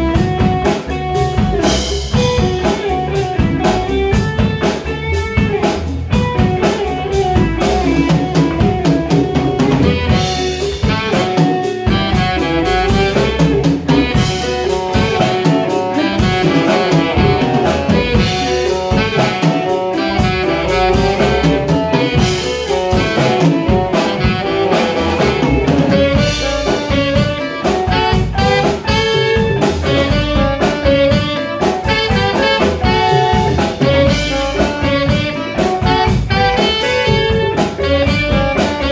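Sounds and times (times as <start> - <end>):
drum kit: 0.0 - 38.9
electric bass: 0.0 - 38.9
electric guitar: 0.0 - 38.9
saxophones playing melody: 0.0 - 38.9.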